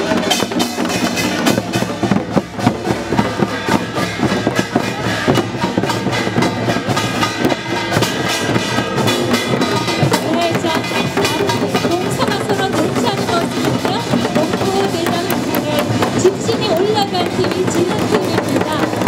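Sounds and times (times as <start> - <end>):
fast drum strokes: 0.0 - 19.0
ringing metallic percussion: 0.0 - 19.0.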